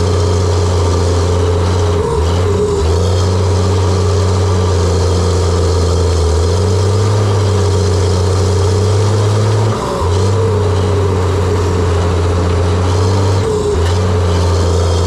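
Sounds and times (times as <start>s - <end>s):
diesel dozer engine running: 0.0s - 15.0s.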